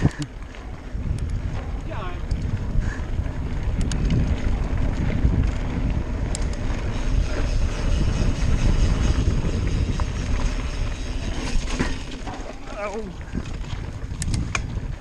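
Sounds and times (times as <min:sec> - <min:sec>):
bike clicks and rattles: 0:00.0 - 0:15.0
bike tyres rumbling on gravel: 0:00.0 - 0:15.0
wind on microphone: 0:00.0 - 0:15.0.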